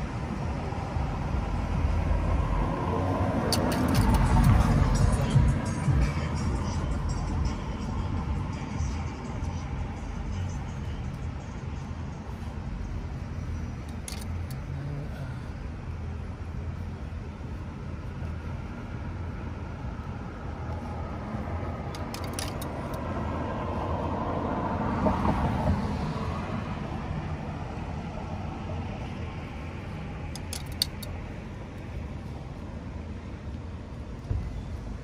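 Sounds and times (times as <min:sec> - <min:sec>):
low traffic hum: 0:00.0 - 0:35.0.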